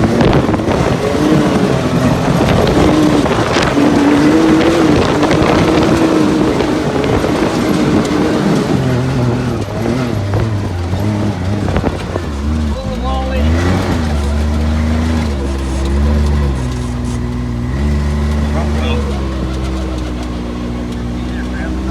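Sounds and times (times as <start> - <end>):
vehicle engine running loudly: 0.0 - 21.9.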